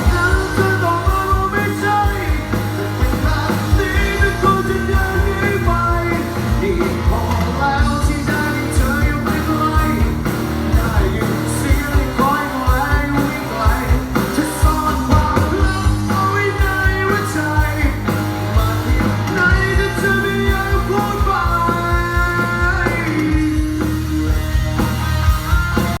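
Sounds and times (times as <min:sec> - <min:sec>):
person singing: 0:00.0 - 0:24.4
bass: 0:00.0 - 0:26.0
drum beat: 0:00.0 - 0:26.0
guitar: 0:00.0 - 0:26.0.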